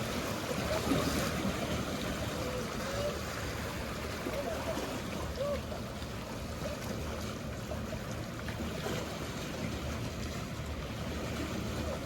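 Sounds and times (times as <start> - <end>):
boat engines humming: 0.0 - 12.0
sea water lapping: 0.0 - 12.0.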